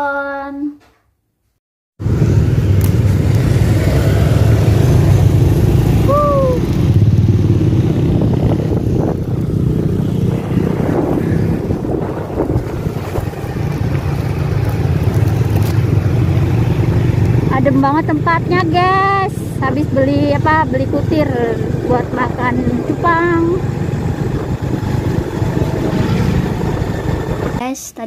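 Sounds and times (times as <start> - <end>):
wind on microphone: 2.0 - 17.8, 18.4 - 27.6
scooter engine rumbling: 2.0 - 27.6.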